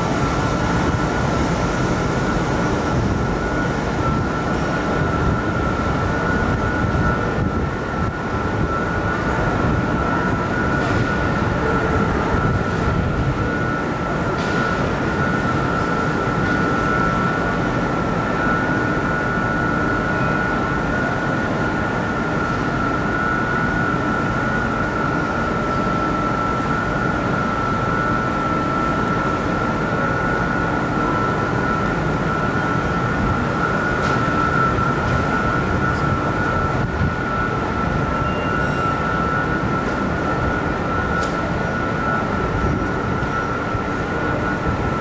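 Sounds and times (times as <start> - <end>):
high-pitched whine: 0.0 - 45.0
metro train rumbling: 0.0 - 45.0.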